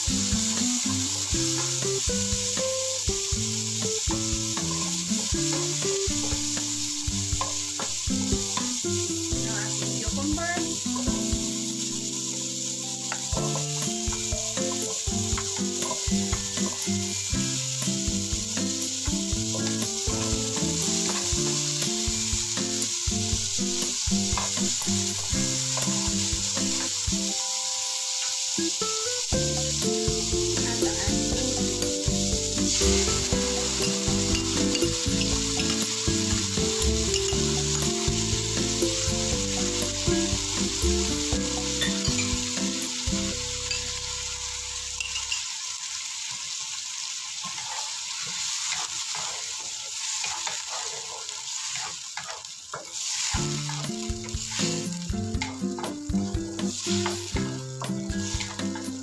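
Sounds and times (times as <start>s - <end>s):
background music: 0.0s - 44.8s, 53.4s - 59.0s
food sizzling in hot oil: 0.0s - 59.0s.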